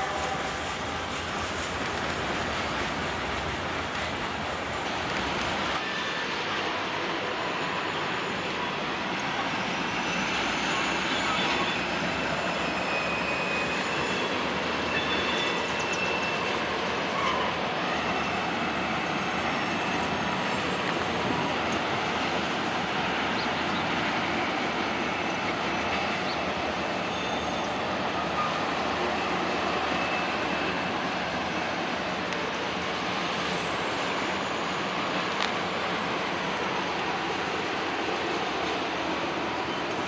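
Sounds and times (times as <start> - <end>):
diesel locomotives pulling: 0.0 - 40.0
freight cars rumbling over rails: 0.0 - 40.0
faint high wheel squeals: 5.8 - 40.0.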